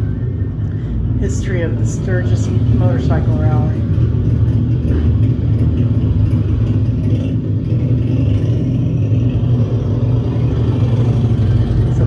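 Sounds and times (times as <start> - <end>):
loud low engine-like rumble: 0.0 - 12.0.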